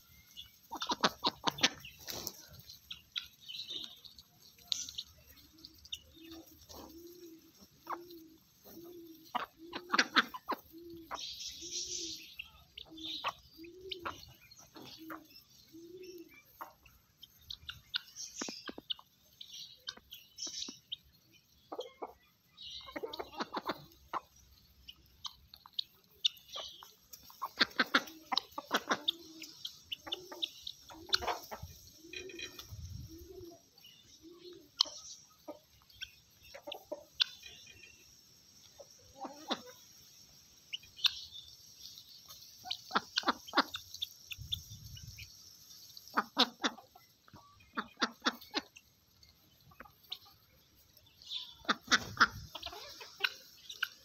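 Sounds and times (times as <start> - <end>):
hen clucking: 0.0 - 54.0.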